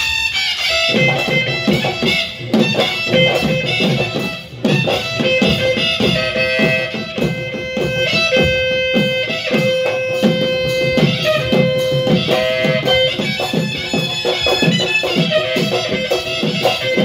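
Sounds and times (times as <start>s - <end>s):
drums beaten in quick rhythm: 0.0s - 17.0s
wind instrument long notes: 0.0s - 17.0s.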